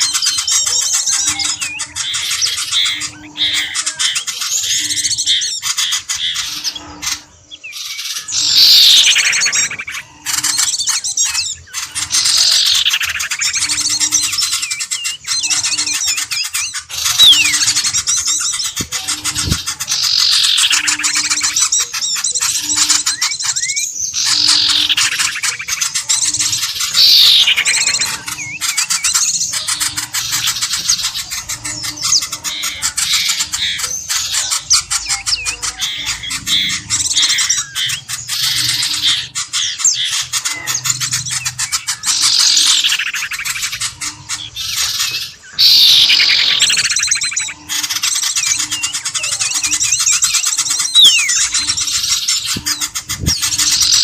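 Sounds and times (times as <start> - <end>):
loud falling squawk calls: 0.0 - 54.0
small birds chirping: 0.0 - 54.0.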